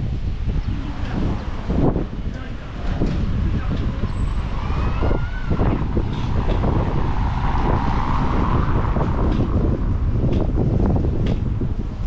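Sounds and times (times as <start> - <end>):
wind rumble on microphone: 0.0 - 12.0
motor vehicle passing: 0.6 - 12.0.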